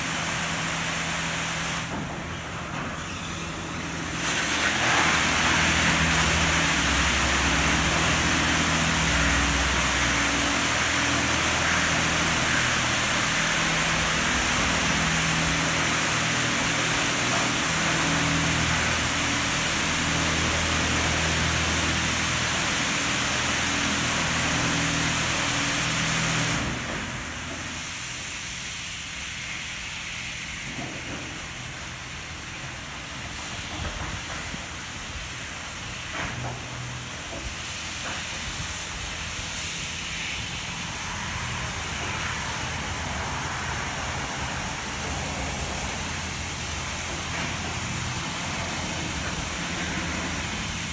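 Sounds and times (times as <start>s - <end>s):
high pressure water jets hissing: 0.0s - 50.9s.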